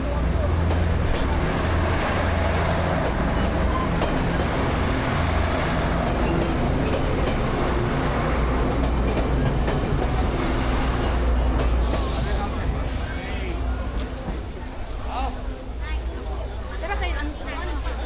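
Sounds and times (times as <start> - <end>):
train rumbling and rattling past: 0.0 - 18.0.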